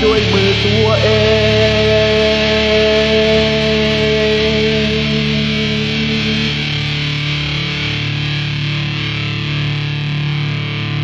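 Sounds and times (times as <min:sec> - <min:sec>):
distorted electric guitar chords: 0:00.0 - 0:11.0.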